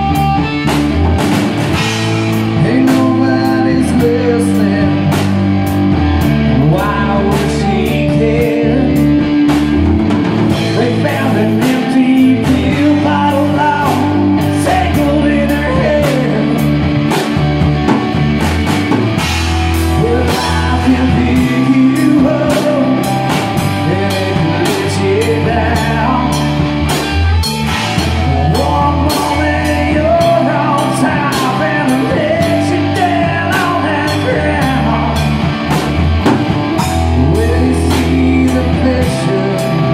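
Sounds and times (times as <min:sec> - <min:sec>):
rock band playing: 0:00.0 - 0:39.9
person singing: 0:01.7 - 0:09.7, 0:10.5 - 0:16.9, 0:19.9 - 0:26.8, 0:28.0 - 0:35.8, 0:36.8 - 0:39.9.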